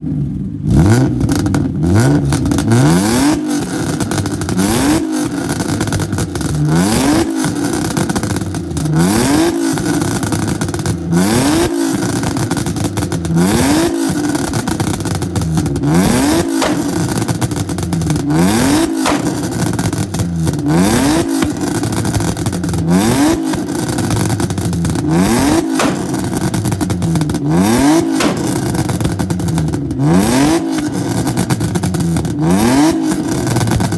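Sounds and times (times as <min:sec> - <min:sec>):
car engine revving: 0:00.2 - 0:33.9
exhaust crackles and pops: 0:00.6 - 0:33.9.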